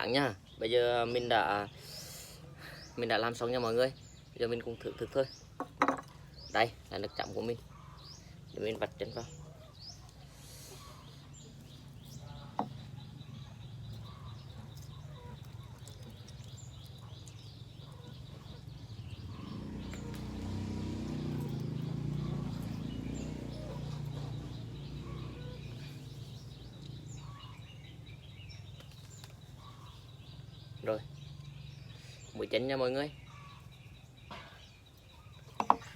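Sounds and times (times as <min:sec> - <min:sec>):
bird chirps: 0:00.0 - 0:35.9.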